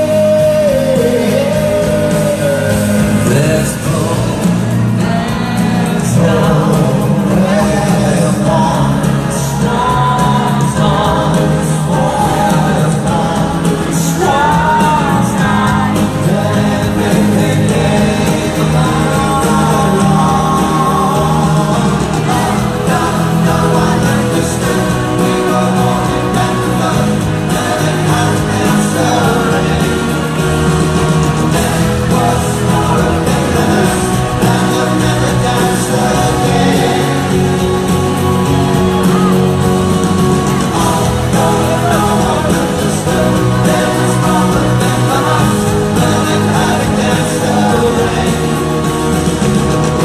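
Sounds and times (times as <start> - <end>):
live pop band music: 0.0 - 50.0
wordless singing: 0.0 - 50.0.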